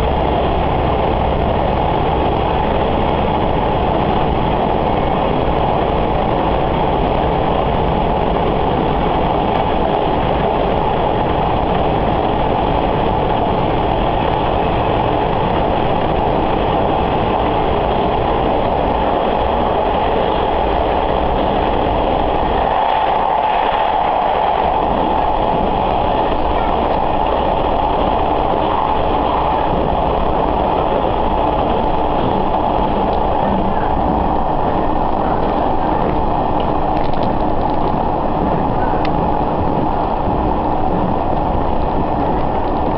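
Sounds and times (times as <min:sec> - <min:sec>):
railcar engine and wheel noise: 0:00.0 - 0:42.9.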